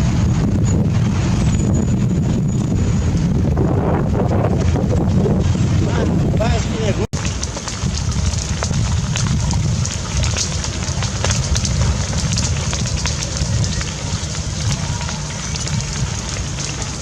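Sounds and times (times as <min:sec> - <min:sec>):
wind rumble on microphone: 0:00.0 - 0:17.0
open fire crackling and popping: 0:02.2 - 0:17.0.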